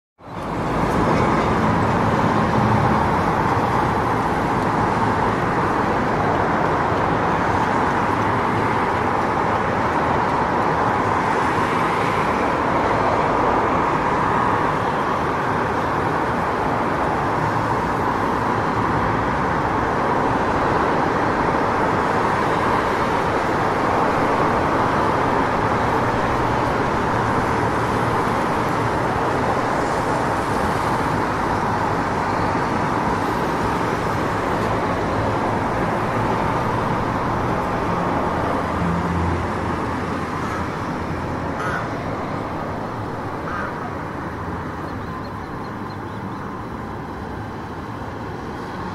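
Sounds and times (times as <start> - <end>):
street traffic noise: 0.2 - 48.9.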